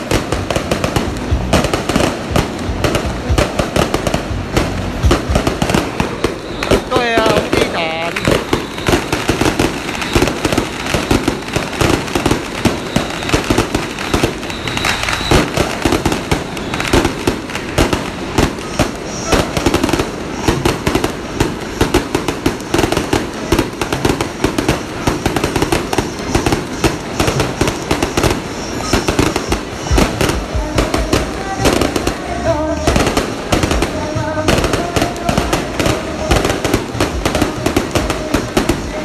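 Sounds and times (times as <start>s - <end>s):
crowd voices: 0.0s - 39.0s
firecrackers cracking: 0.0s - 39.0s.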